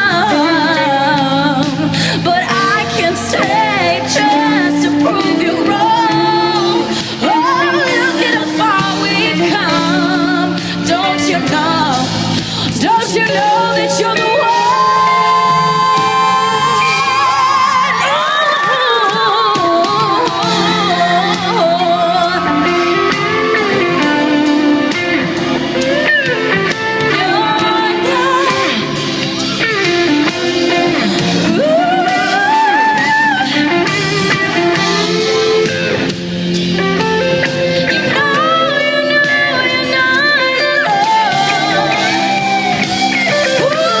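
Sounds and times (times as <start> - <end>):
guitar and backing band: 0.0 - 44.0
woman singing: 0.0 - 44.0.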